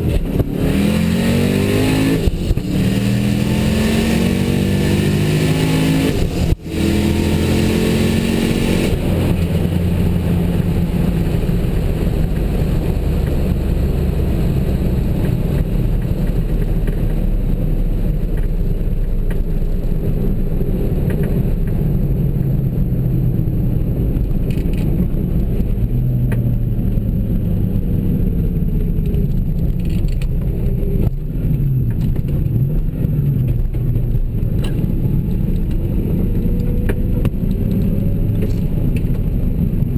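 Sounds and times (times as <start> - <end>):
car engines accelerating hard: 0.0 - 39.9
road and wind noise: 0.0 - 39.9.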